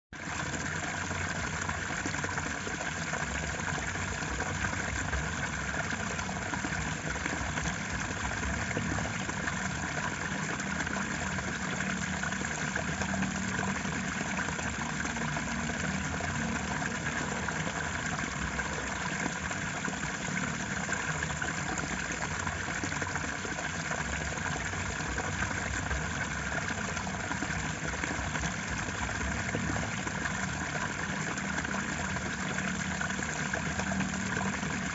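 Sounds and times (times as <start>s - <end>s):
water rushing: 0.2s - 34.9s.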